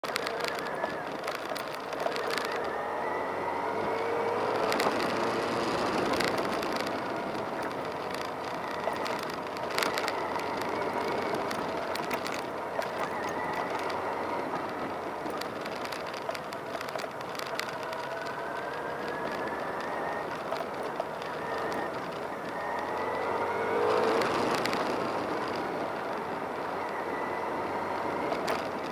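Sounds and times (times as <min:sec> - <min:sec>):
small clicks and knocks: 0:00.0 - 0:02.8, 0:03.7 - 0:28.9
road and wind noise: 0:00.0 - 0:28.9
vehicle engine drone: 0:00.0 - 0:28.9.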